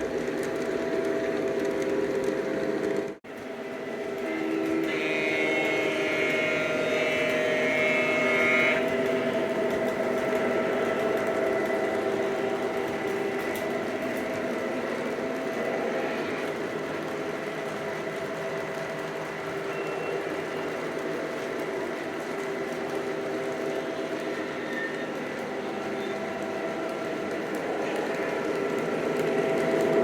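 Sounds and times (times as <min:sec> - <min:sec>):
model train motor whir: 0:04.1 - 0:30.0.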